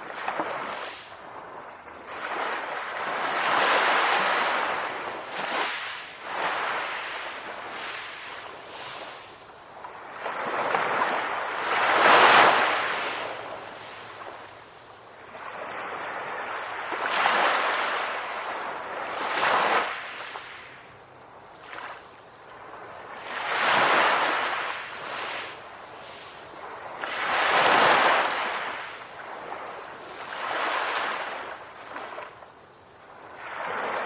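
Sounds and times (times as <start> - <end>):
ocean surf breaking on shore: 0.0 - 32.5.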